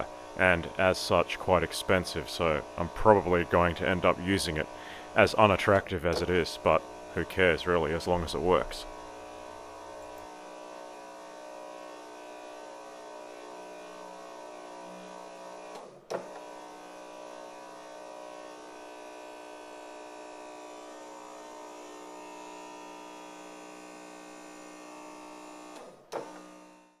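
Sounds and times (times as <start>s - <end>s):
electric motors whining: 0.0s - 26.9s.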